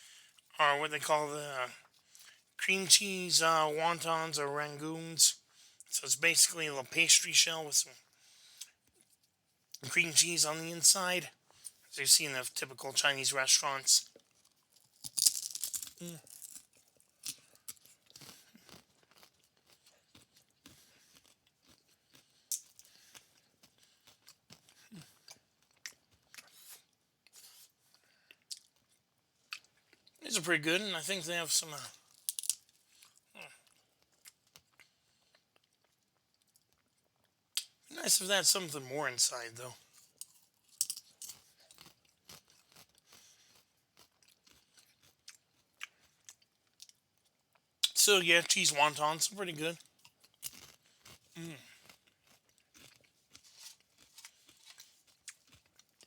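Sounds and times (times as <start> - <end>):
crunching and chewing crispy food: 0.0 - 2.6, 7.9 - 9.8, 11.3 - 38.6, 39.2 - 56.0.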